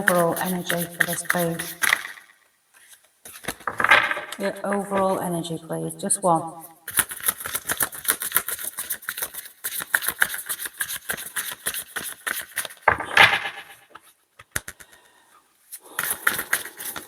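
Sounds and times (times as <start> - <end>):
cards being shuffled: 0.0 - 5.2, 6.9 - 14.9, 15.9 - 17.0.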